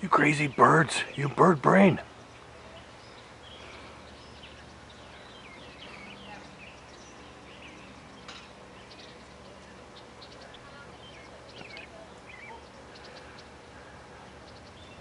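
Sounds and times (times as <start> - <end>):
faint birds chirping: 0.0 - 15.0
low steady hum: 0.0 - 15.0.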